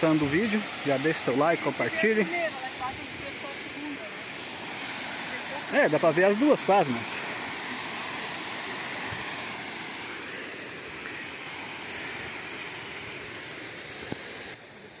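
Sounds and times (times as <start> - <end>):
distant falling water rushing: 0.0 - 15.0.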